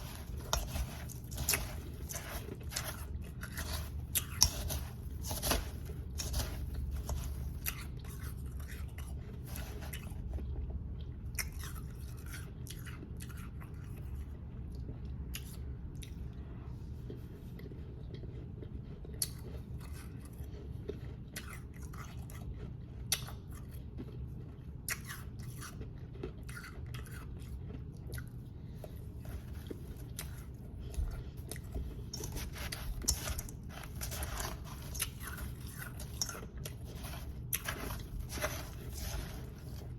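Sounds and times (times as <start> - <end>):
ice crunching in mouth: 0.0 - 13.9, 17.7 - 39.9
steady low hum: 0.0 - 39.9.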